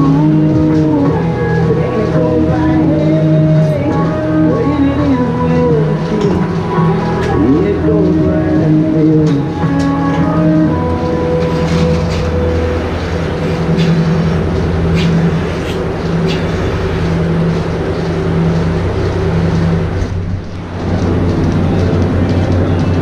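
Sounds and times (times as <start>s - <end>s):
milking equipment humming: 0.0s - 23.0s.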